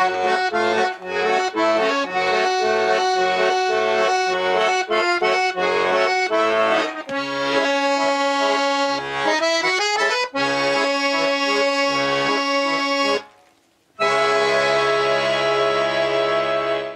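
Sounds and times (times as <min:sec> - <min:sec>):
button accordion playing a tune: 0:00.0 - 0:13.3, 0:14.0 - 0:16.9.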